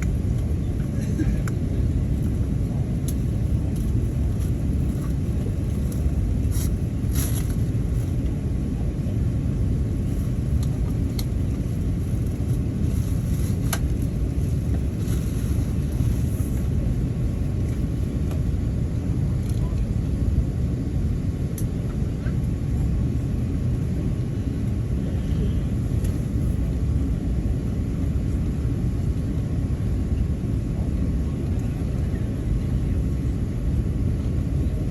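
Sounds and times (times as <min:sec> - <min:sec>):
aircraft cabin rumble: 0:00.0 - 0:34.9.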